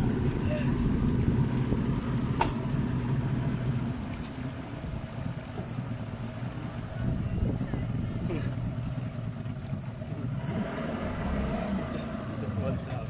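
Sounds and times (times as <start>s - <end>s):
motorboat engine running: 0.0s - 13.0s
rushing wind and water: 0.0s - 13.0s.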